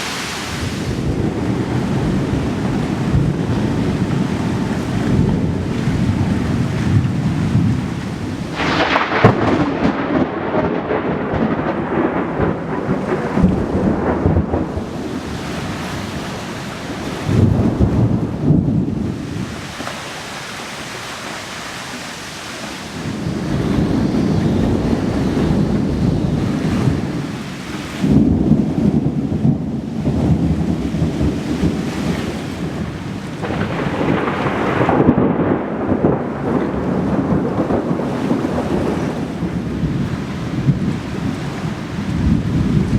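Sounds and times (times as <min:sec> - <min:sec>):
thunder rumbling: 0:00.0 - 0:19.8, 0:22.6 - 0:42.9
steady rain: 0:00.0 - 0:42.9.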